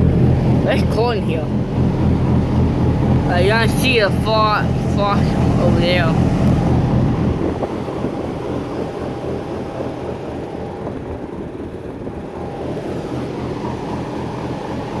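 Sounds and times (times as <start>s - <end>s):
diesel truck idling: 0.0s - 15.0s
faint steady whine: 0.0s - 15.0s.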